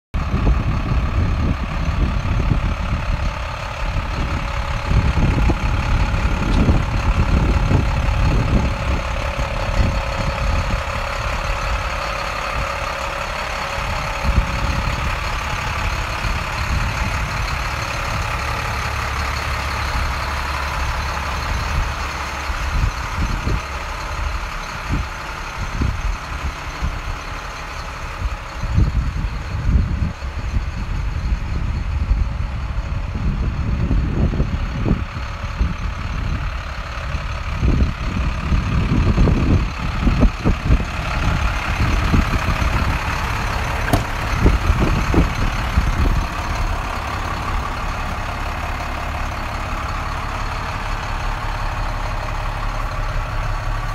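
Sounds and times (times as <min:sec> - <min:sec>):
diesel truck engine idling: 0:00.2 - 0:53.9
low rumbles: 0:00.2 - 0:53.9.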